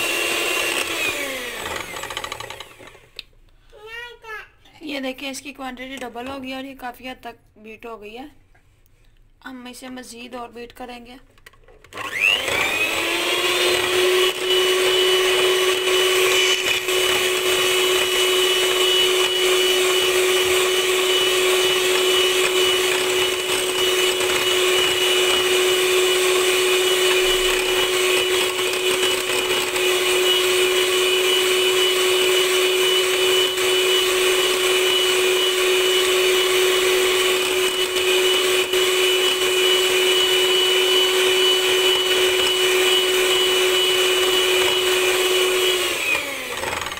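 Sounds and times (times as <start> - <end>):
electric hand mixer whining: 0.0 - 3.2, 11.8 - 46.9.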